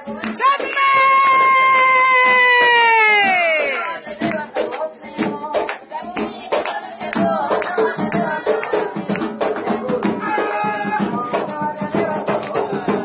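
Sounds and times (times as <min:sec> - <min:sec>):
drums keeping a steady beat: 0:00.0 - 0:13.0
voices singing a chant: 0:00.0 - 0:13.0.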